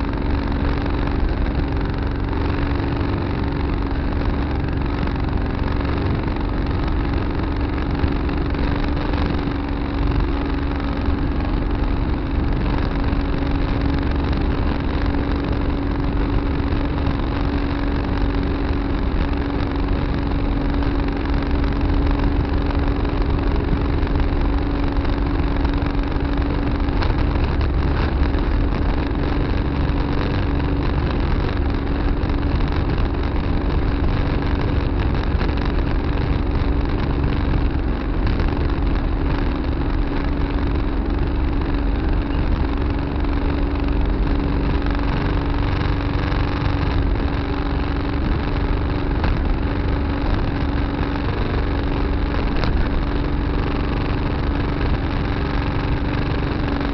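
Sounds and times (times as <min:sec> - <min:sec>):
tractor engine running: 0:00.0 - 0:56.9.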